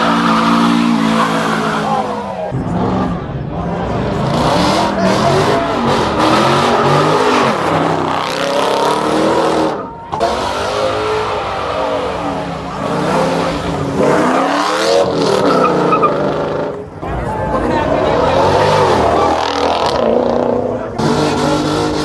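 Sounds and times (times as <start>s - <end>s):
car engine revving hard: 0.0s - 17.0s, 17.6s - 22.0s.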